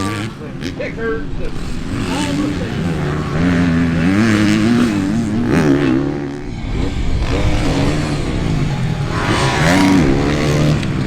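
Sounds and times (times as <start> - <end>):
motocross bike engine revving: 0.0 - 11.0.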